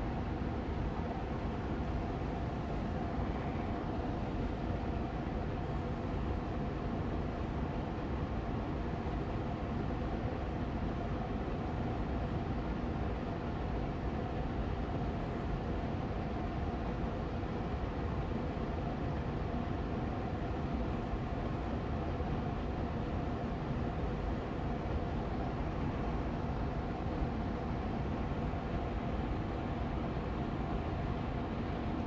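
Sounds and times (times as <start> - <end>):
air purifier fan humming: 0.0 - 32.0.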